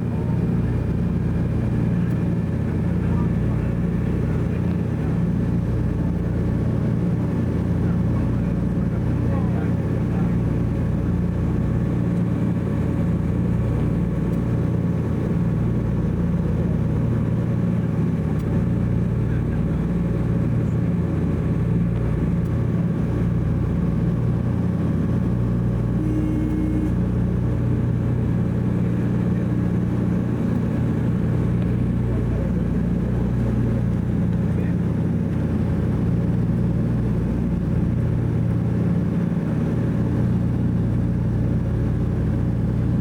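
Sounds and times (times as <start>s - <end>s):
propeller plane engines droning: 0.0s - 43.0s.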